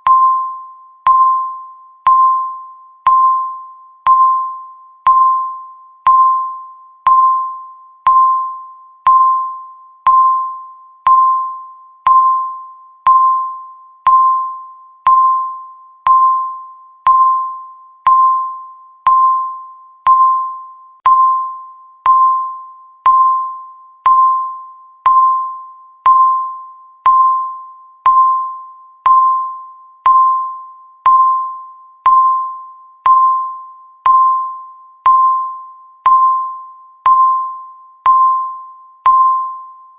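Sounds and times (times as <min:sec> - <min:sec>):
timer dings: 0:00.0 - 0:39.9.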